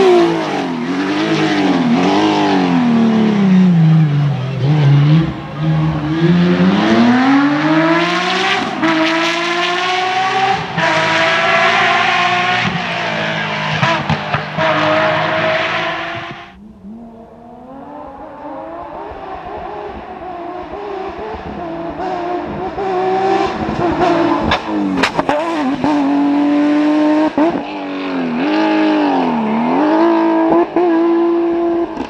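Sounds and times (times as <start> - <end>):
rally car engine accelerating: 0.0 - 32.0.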